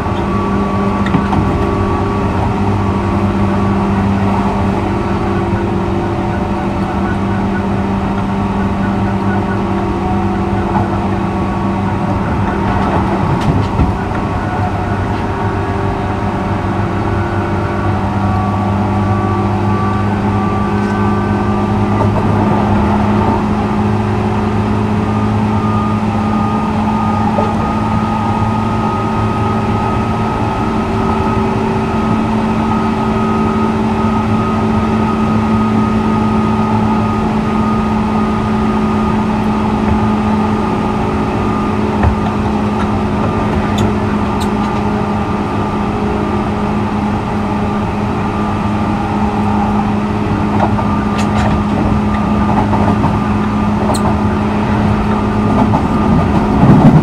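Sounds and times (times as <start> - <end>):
constant low hum: 0.0 - 57.0
high whine of running gear: 0.0 - 57.0
train wheels rumbling on rail: 0.0 - 57.0.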